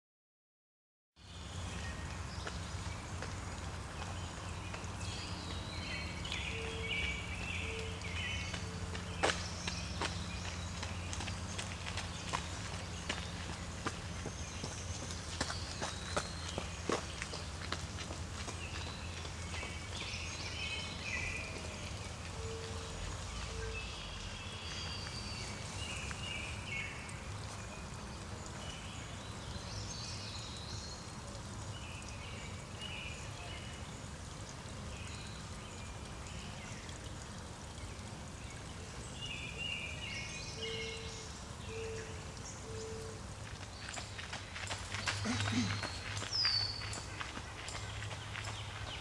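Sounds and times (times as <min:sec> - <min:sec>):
birds singing: 0:01.2 - 0:49.0.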